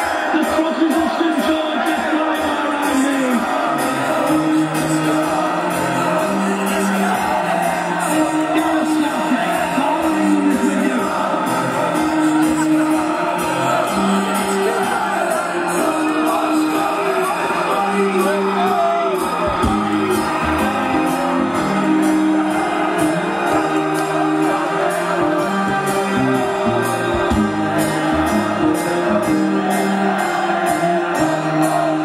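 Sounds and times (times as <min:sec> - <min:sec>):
sung vocals: 0:02.0 - 0:32.0.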